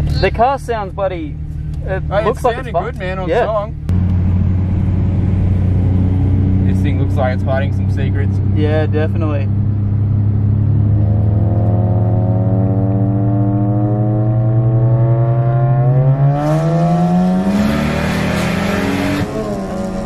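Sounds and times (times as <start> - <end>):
car engine accelerating hard: 1.7 - 20.0.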